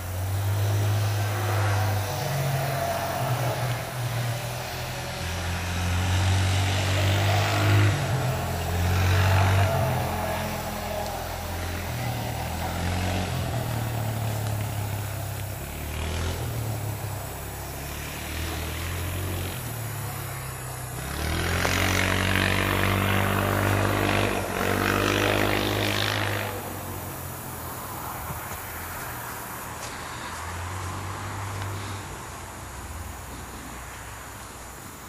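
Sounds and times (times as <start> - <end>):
vehicle accelerating past: 0.0 - 34.4
low engine hum: 0.0 - 35.0.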